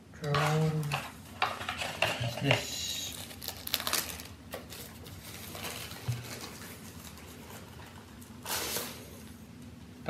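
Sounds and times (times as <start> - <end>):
paper and plastic rustling: 0.3 - 9.4.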